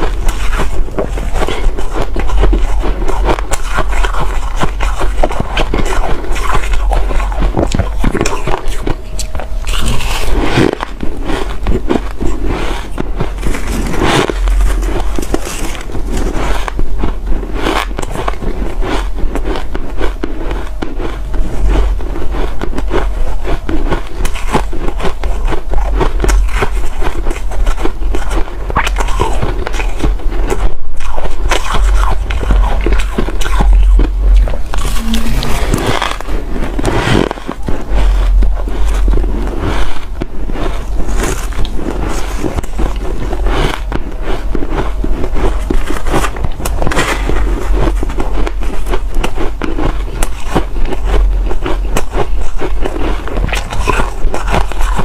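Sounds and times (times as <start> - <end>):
ice being chewed crunching: 0.0 - 55.0.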